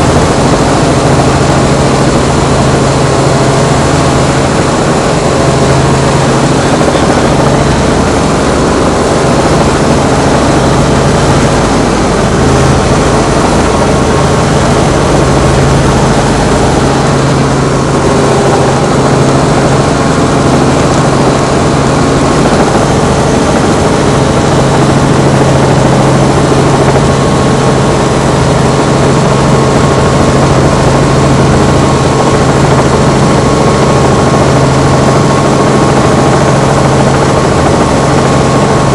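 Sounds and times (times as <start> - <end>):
helicopter engine and rotors droning: 0.0 - 38.9.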